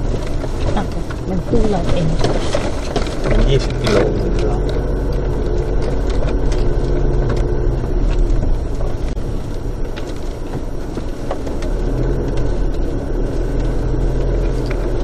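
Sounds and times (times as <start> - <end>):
car engine running: 0.0 - 15.0
small knocks and rattles: 0.0 - 15.0
tyres rolling over dirt track: 0.0 - 15.0.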